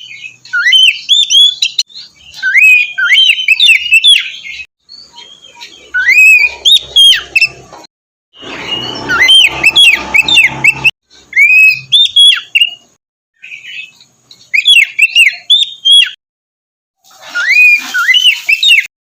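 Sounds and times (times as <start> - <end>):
bird singing whistled phrases: 0.0 - 7.6, 8.4 - 12.8, 13.4 - 16.2, 17.4 - 18.9.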